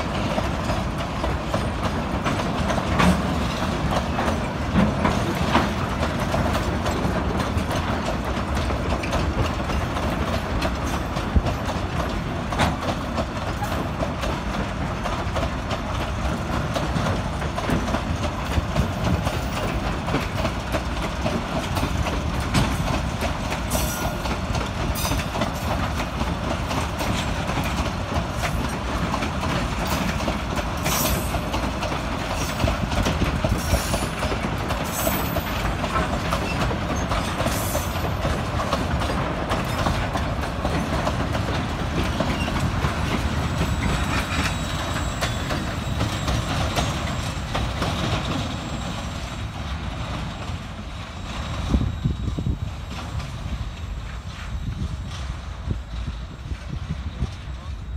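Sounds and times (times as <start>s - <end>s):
freight train wheels clacking: 0.0s - 57.9s.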